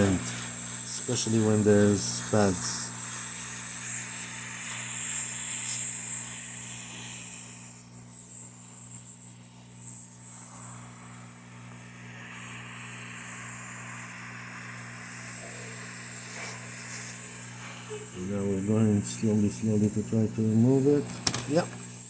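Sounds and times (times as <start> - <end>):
hot air gun hissing: 0.0 - 22.0
steady low hum: 0.0 - 22.0.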